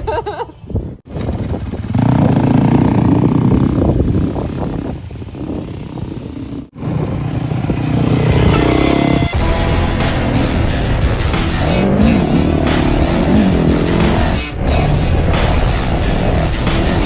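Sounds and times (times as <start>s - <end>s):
dirt bike engine running: 1.0s - 17.0s.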